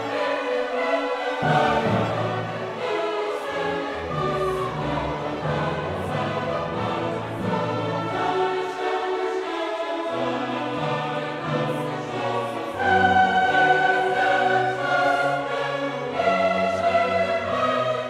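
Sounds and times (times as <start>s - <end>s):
choir singing sustained notes: 0.0s - 18.0s
orchestra holding chords: 0.0s - 18.0s.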